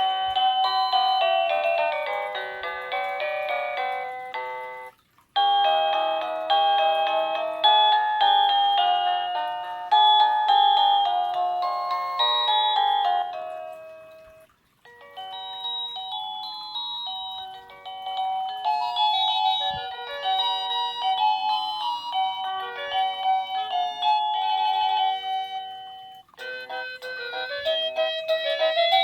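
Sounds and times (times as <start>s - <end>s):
doorbell chime melodies: 0.0s - 29.0s.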